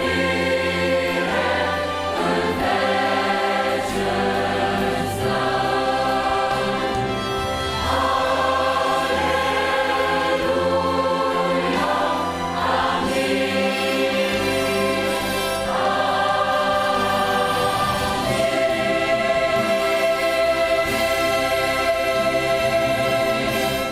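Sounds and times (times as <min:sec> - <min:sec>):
children's choir singing a hymn: 0:00.0 - 0:23.9
instrumental accompaniment: 0:00.0 - 0:23.9.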